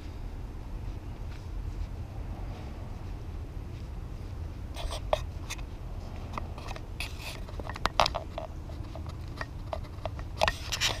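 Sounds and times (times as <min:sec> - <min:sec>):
footsteps crunching on road: 0:00.0 - 0:11.0
steady low rumble: 0:00.0 - 0:11.0.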